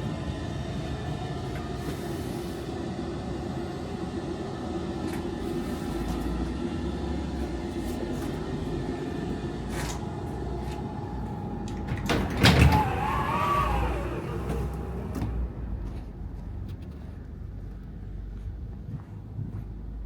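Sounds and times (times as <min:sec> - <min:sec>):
electric tram hum and rumble: 0:00.0 - 0:20.0.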